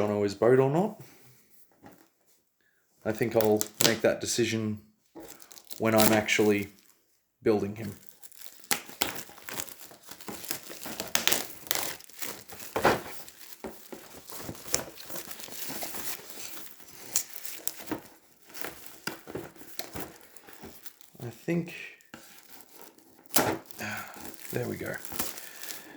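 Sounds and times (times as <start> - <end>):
plastic wrapping crinkling: 3.1 - 4.0, 5.1 - 7.0, 7.8 - 25.9.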